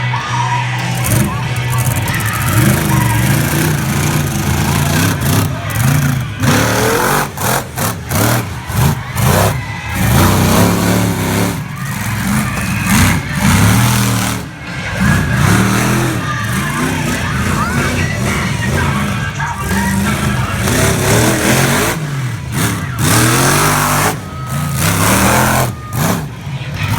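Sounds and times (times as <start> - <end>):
toy truck engine revving: 0.1 - 26.9.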